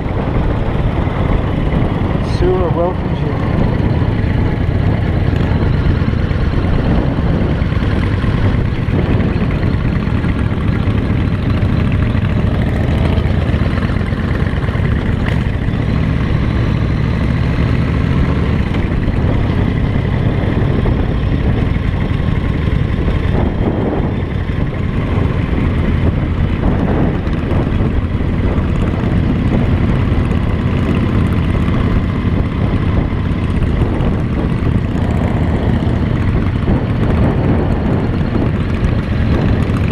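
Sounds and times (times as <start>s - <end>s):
motorcycle engine running: 0.0s - 39.9s
rush of noise: 0.0s - 39.9s.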